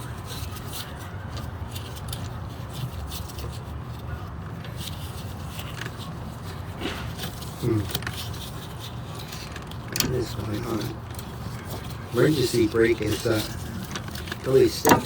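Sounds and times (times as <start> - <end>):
low background hum: 0.0 - 15.0
light metallic clicks and scrapes: 0.3 - 15.0.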